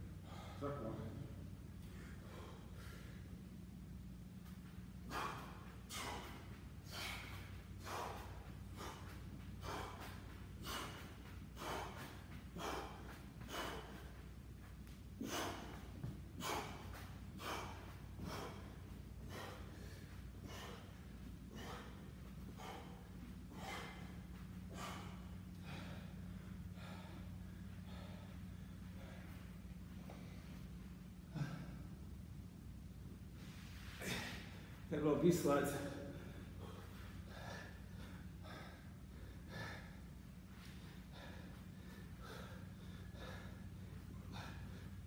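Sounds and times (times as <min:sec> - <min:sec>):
man breathing hard: 0:00.0 - 0:32.2, 0:33.0 - 0:34.9, 0:35.7 - 0:45.0
steady low hum: 0:00.0 - 0:45.0.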